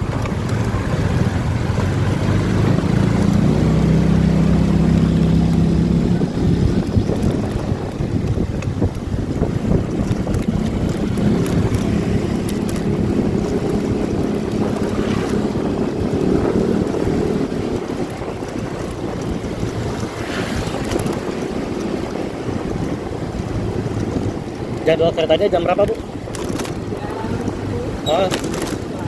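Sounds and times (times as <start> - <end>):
motorcycle engine running: 0.0 - 29.0
wind buffeting the microphone: 0.0 - 29.0.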